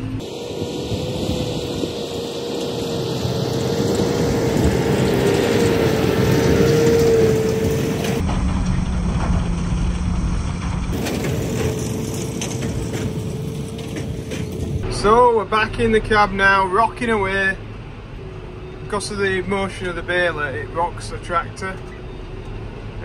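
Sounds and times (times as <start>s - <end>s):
baler machinery working: 0.0s - 23.0s
steady whine: 0.0s - 23.0s
tractor engine under load: 0.0s - 23.0s.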